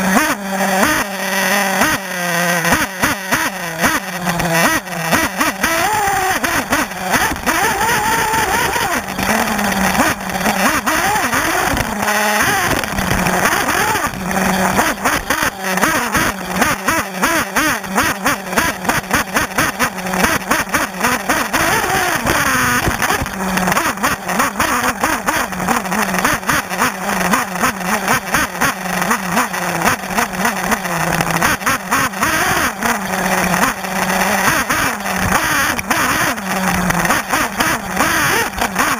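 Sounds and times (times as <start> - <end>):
model car engine revving: 0.0 - 38.9.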